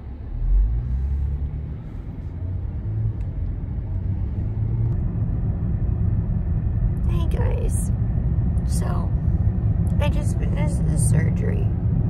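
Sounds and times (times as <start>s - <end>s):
road rumble inside a car: 0.0s - 12.0s.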